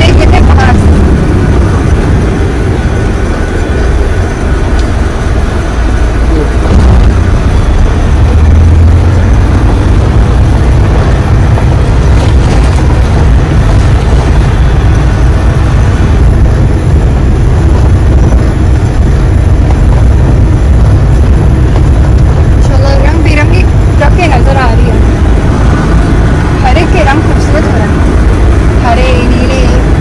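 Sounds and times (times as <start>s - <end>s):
diesel truck engine rumbling: 0.0s - 30.0s.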